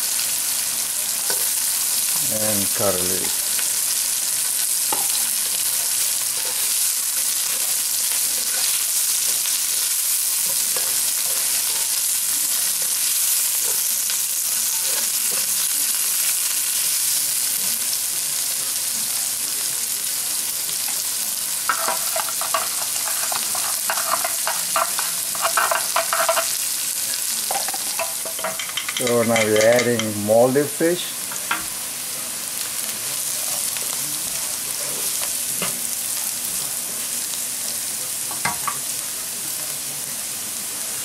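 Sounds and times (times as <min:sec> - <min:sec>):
onions and spices sizzling: 0:00.0 - 0:41.0.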